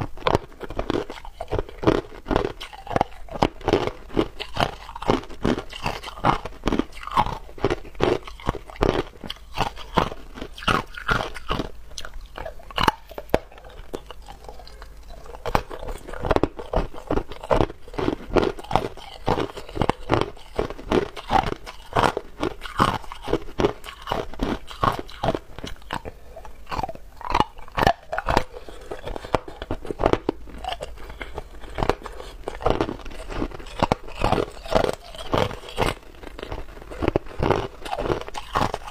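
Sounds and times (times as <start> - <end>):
ice crunching in mouth: 0.0 - 38.9.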